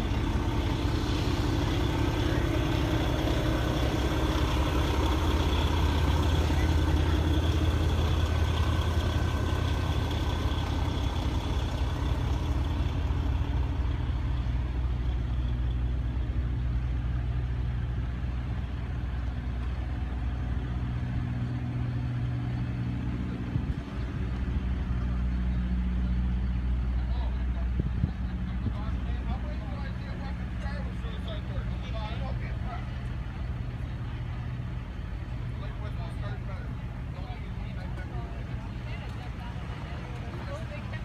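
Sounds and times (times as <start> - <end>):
vehicle engine low hum: 0.0 - 41.0.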